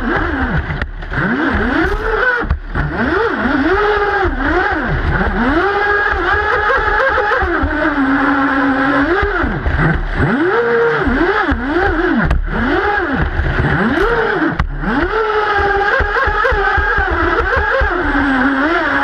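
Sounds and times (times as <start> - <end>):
rc boat motors whining: 0.0 - 19.0.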